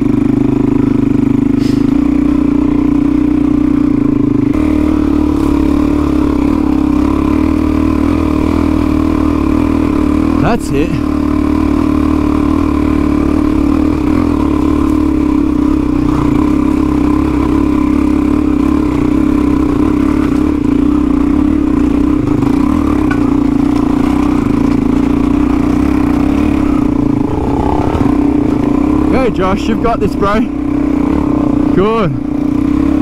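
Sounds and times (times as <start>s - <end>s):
motorcycle engine droning: 0.0s - 33.0s.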